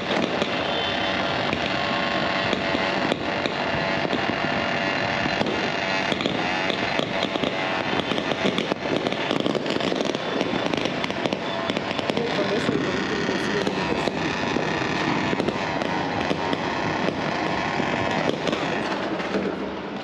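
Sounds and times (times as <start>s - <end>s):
crackling roar of fireworks: 0.0s - 20.0s
firecrackers popping and banging: 0.0s - 20.0s.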